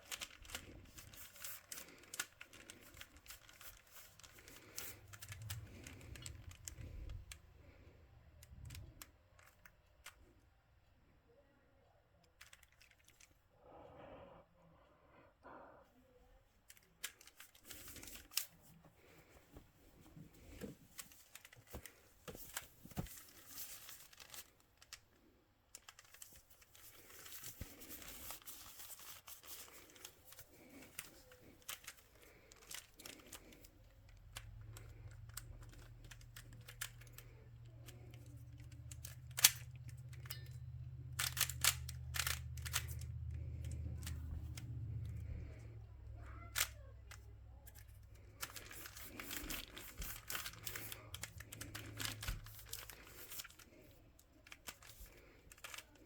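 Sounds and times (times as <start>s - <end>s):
plastic puzzle clicking and rustling: 0.0s - 10.5s, 12.2s - 13.4s, 16.6s - 56.0s
low steady hum: 0.0s - 56.0s.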